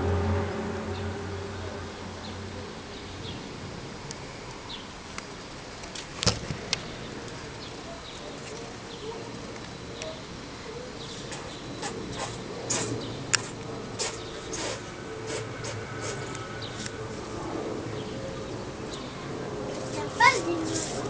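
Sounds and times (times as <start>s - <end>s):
low hum: 0.0s - 19.9s
outdoor background hiss: 0.0s - 21.0s.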